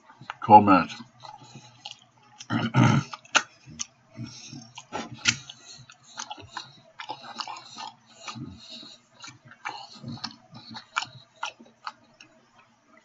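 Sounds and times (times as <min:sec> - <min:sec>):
person chewing: 0:00.0 - 0:13.0
mouth clicks: 0:00.2 - 0:12.3.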